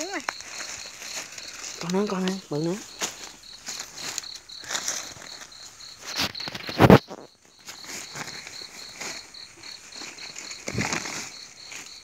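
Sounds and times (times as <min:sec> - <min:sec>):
insect chirping: 0:00.0 - 0:12.0
rustling and handling noises: 0:00.0 - 0:12.0.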